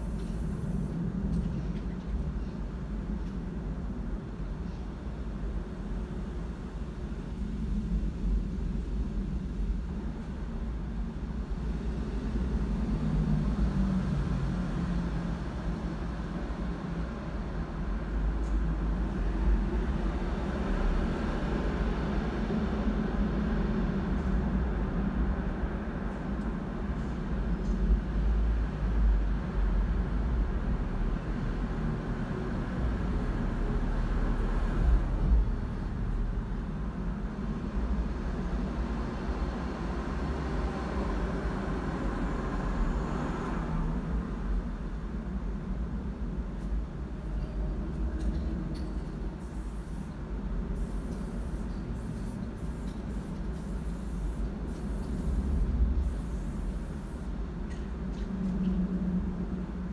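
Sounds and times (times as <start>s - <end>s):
vehicle rumble inside car: 0.0s - 59.9s.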